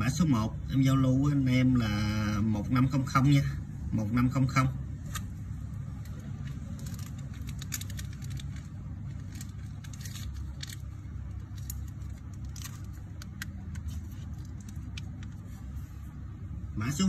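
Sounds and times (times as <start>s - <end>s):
background traffic rumble: 0.0s - 17.0s.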